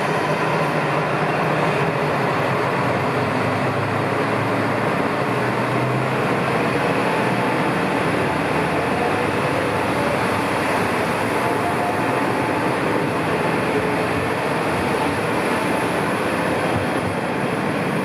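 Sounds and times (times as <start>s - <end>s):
diesel railcar pulling out: 0.0s - 18.0s.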